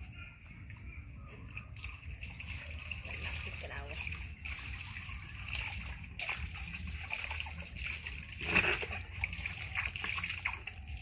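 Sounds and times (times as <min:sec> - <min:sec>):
water splashing in plastic basin: 0:01.4 - 0:11.0.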